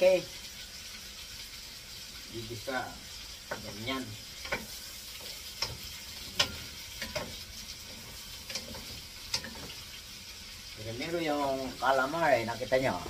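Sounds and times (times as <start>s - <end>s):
squid sizzling in a wok: 0.0s - 13.0s.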